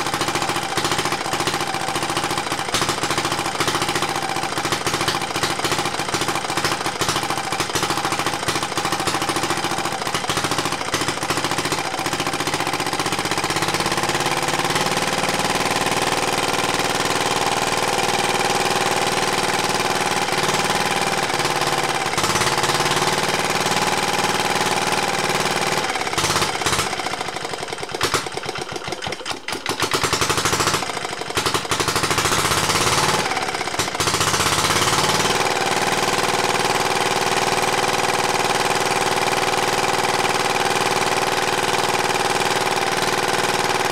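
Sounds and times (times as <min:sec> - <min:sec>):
diesel engine knocking: 0:00.0 - 0:43.9.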